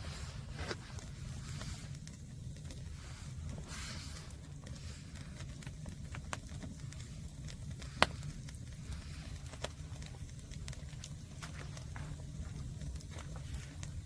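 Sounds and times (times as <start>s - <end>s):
firewood burning and crackling: 0.0s - 14.0s.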